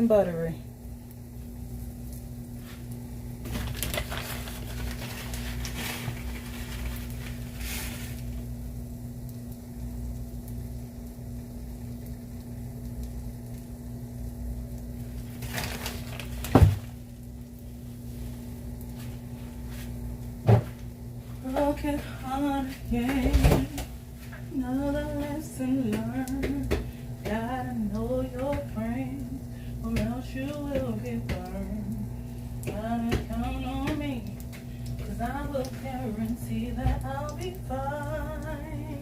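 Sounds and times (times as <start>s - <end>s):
batter sizzling in a pan: 0.0s - 38.8s
steady hum: 0.0s - 39.0s.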